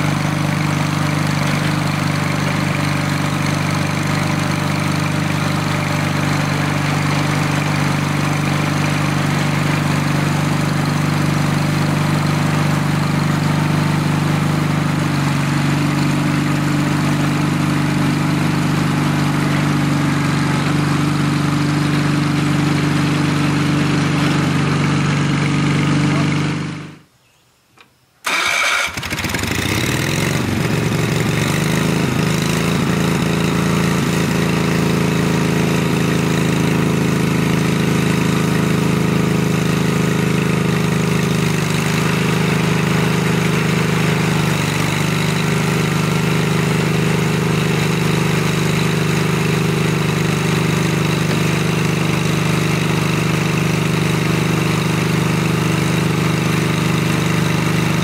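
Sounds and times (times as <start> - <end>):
garden tractor engine tilling: 0.0 - 27.0, 28.2 - 58.0.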